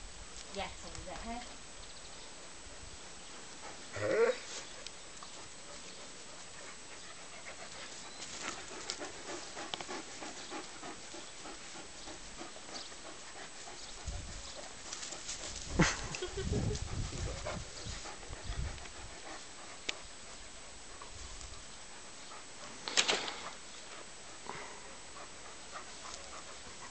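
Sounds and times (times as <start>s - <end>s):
dog panting: 3.3s - 26.9s.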